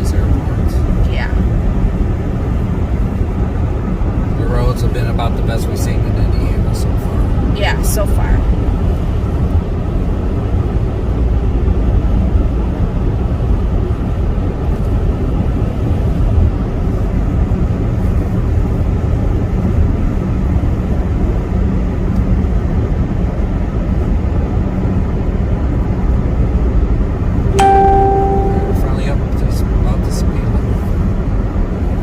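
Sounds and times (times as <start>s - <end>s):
car road and engine noise: 0.0s - 27.4s.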